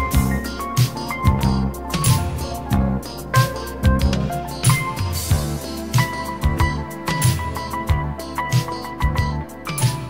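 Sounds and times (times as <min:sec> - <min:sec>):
drum beat with cymbals: 0:00.0 - 0:10.0
held keyboard and guitar notes: 0:00.0 - 0:10.0.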